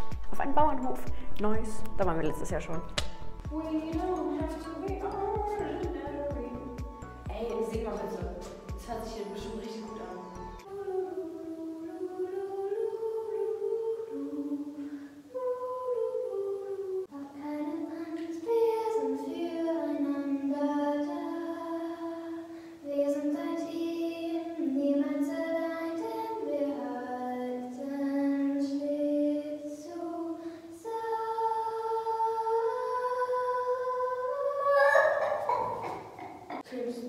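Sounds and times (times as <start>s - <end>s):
girl singing unaccompanied: 2.9s - 37.0s.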